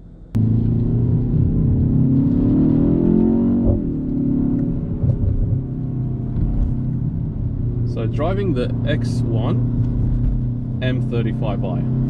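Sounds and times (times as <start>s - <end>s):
car engine accelerating: 0.1s - 12.0s.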